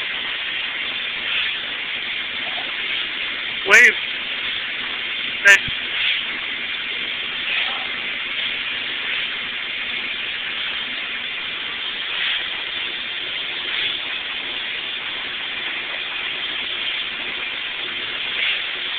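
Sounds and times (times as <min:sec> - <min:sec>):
bread wrapping machine hiss: 0:00.0 - 0:18.9.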